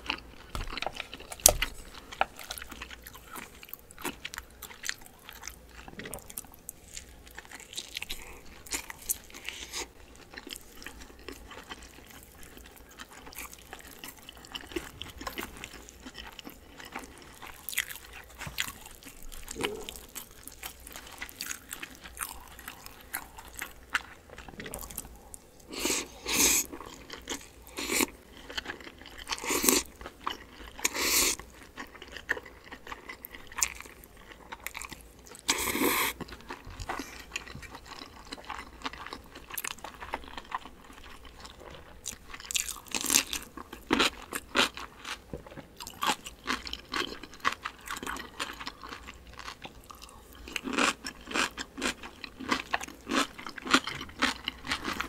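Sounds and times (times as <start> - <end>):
close chewing: 0.0 - 55.0.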